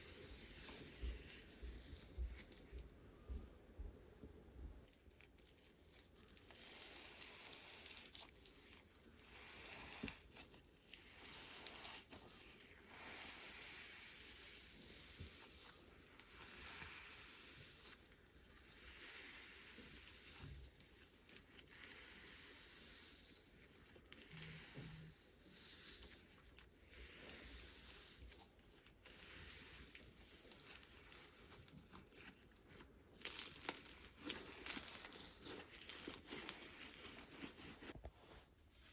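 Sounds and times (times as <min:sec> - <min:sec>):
slime crackling and tearing: 0:04.9 - 0:38.0.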